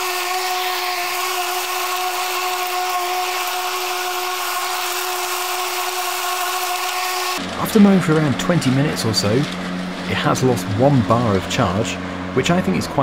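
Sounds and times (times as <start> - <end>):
electric lawnmower motor whine: 0.0 - 13.0.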